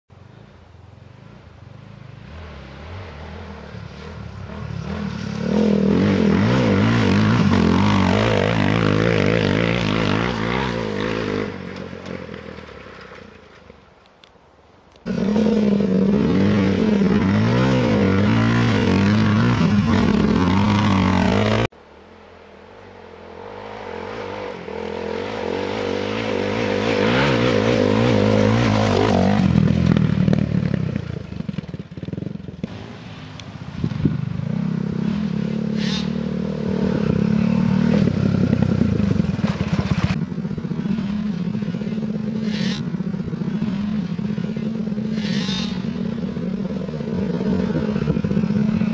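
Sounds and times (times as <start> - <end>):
dirt bike engine revving: 2.2 - 12.2, 15.0 - 21.7, 23.4 - 48.9.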